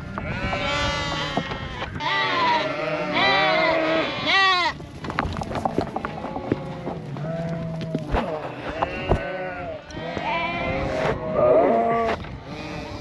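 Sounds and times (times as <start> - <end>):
sheep and lambs bleating: 0.0 - 13.0.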